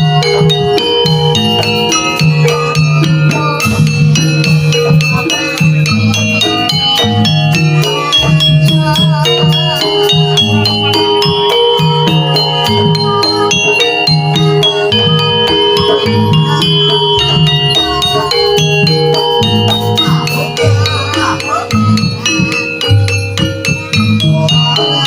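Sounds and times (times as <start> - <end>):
gamelan music: 0.0 - 25.0.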